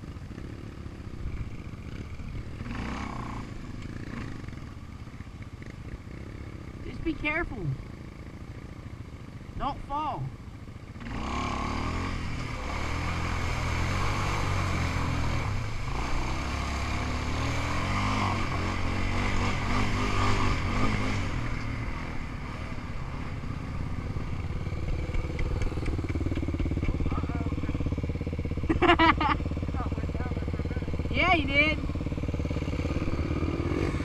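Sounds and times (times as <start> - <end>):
off-road vehicle engine revving: 0.0 - 4.8, 10.9 - 34.0.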